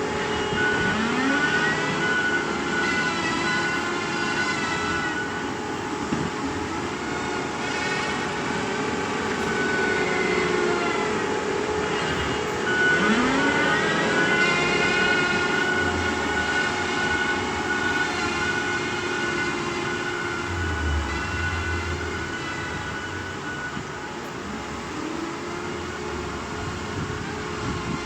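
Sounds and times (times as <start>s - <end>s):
excavator engine and hydraulics: 0.0s - 28.0s.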